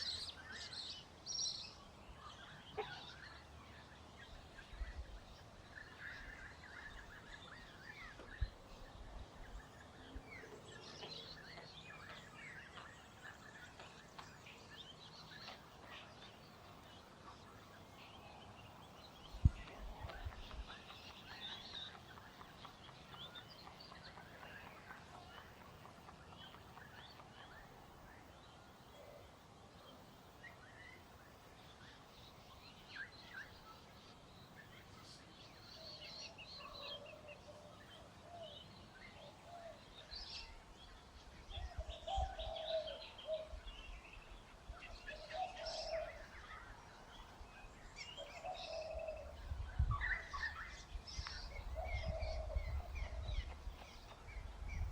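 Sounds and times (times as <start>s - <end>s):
birds chirping softly: 0.0s - 54.9s.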